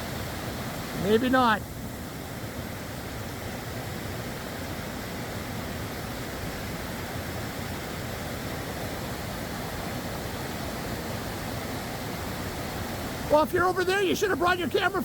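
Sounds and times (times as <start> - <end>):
waterfall and creek rushing: 0.0 - 15.0.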